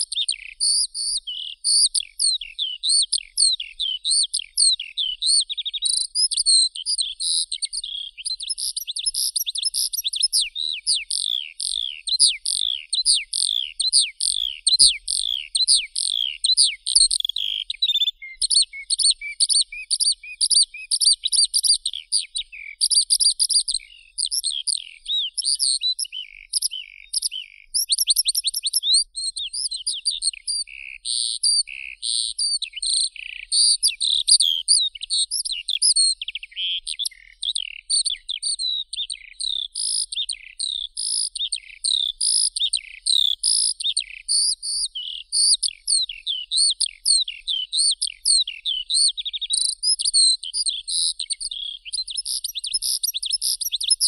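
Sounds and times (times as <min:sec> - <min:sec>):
skylark singing: 0:00.0 - 0:54.0.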